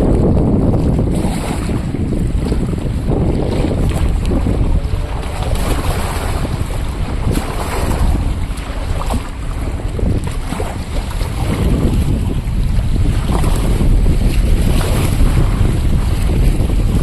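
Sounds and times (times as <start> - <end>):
choppy river water: 0.0 - 17.0
gusty wind buffeting microphone: 0.0 - 17.0.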